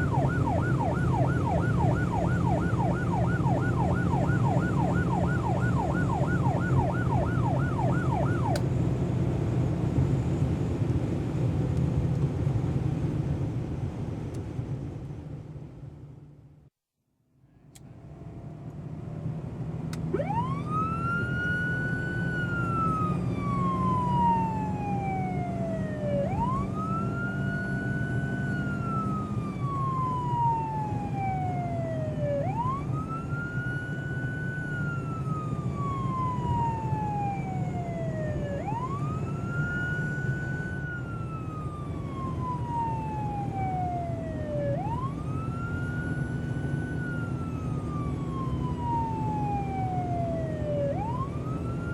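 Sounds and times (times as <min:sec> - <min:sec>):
police siren wailing: 0:00.0 - 0:08.6, 0:17.8 - 0:51.9
car engine hum: 0:00.0 - 0:16.5, 0:17.5 - 0:51.9.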